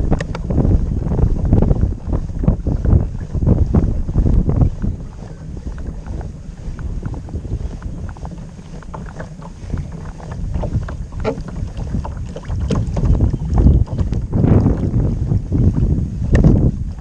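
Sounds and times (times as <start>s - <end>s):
water splashing against kayak: 0.0s - 17.0s
wind buffeting microphone: 0.0s - 17.0s.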